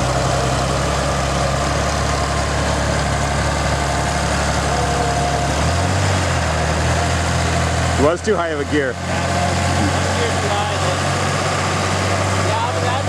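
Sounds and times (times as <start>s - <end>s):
tractor engine labouring: 0.0s - 13.0s.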